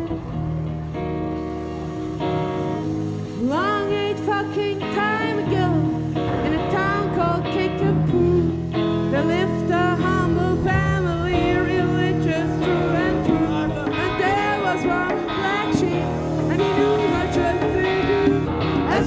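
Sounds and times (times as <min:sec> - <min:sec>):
drums: 0:00.0 - 0:19.0
electric guitar: 0:00.0 - 0:19.0
person singing: 0:03.3 - 0:19.0.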